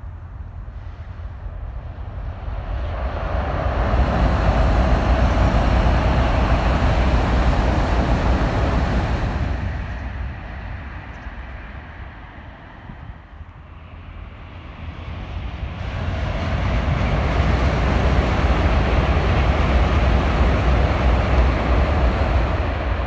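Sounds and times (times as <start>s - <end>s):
low rumble: 0.0s - 23.0s
train rushing roar: 0.7s - 13.3s, 13.9s - 23.0s.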